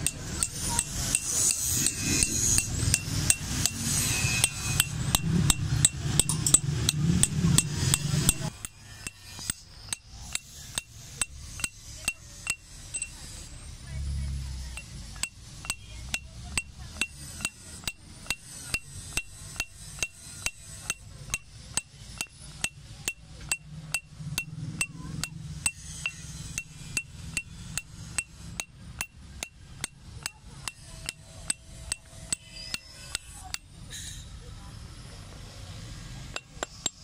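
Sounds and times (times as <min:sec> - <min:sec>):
hammer striking chisel on stone: 0:00.0 - 0:13.5, 0:14.8 - 0:34.2, 0:36.3 - 0:37.0.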